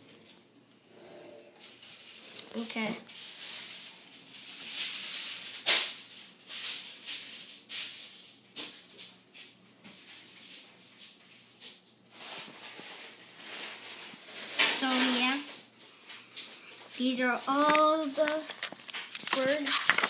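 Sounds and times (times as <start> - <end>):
paper rustling: 1.6 - 20.0.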